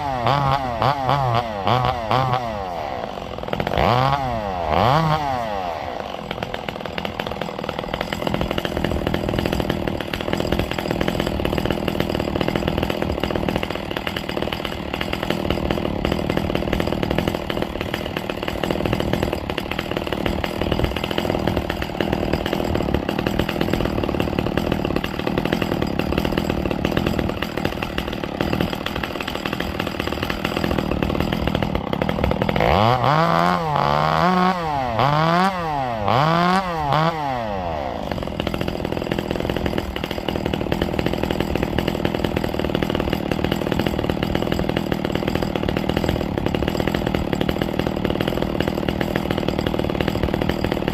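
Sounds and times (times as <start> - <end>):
chainsaw running and revving: 0.0 - 50.9.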